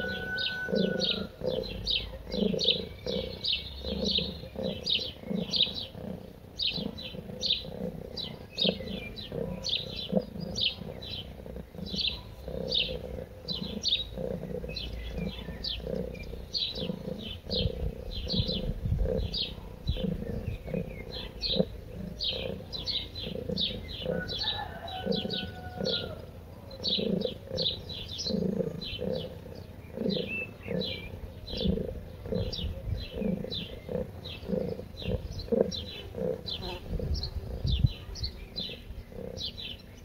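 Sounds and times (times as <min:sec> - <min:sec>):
lower bird call: 0:00.0 - 0:40.0
small birds chirping: 0:00.0 - 0:40.0.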